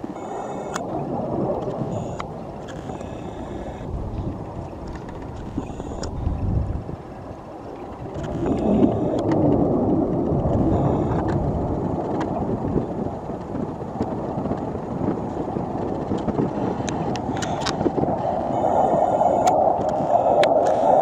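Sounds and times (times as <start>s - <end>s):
jet engine roar: 0.0s - 14.8s, 16.4s - 21.0s.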